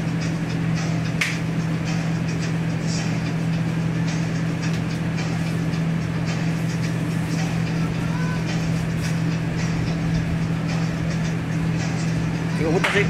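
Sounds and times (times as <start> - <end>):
kitchen machinery humming: 0.0 - 13.0.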